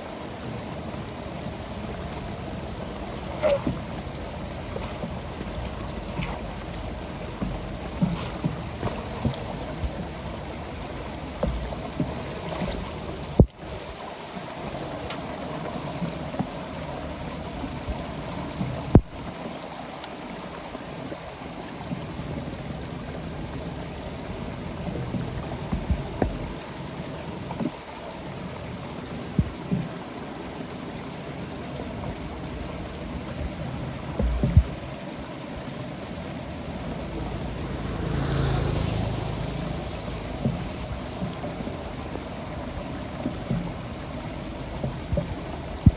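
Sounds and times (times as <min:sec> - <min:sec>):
water running into drain: 0:00.0 - 0:45.9.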